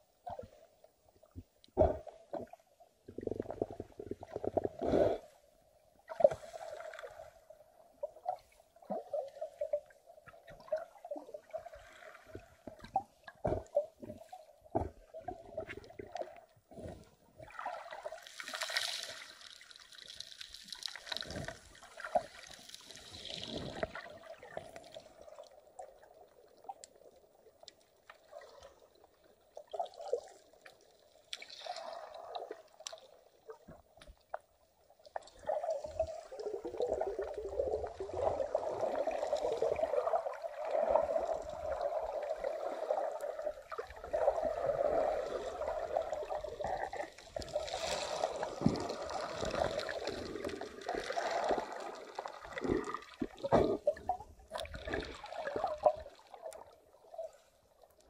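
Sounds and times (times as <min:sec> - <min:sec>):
water sloshing underwater: 0:00.0 - 0:58.0.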